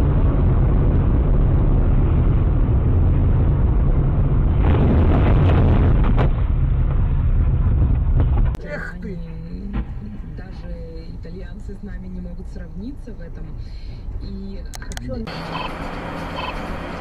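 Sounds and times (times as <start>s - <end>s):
car rumble inside: 0.0s - 17.0s.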